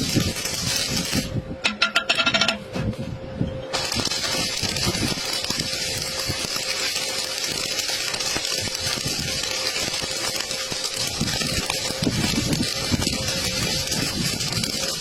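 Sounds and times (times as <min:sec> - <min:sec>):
arc welding crackling hiss: 0:00.0 - 0:01.4, 0:03.7 - 0:15.0.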